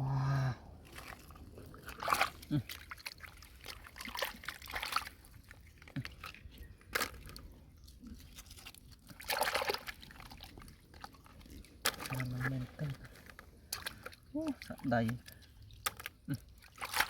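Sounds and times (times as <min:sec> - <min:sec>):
pond water sloshing and splashing: 0:00.0 - 0:17.0.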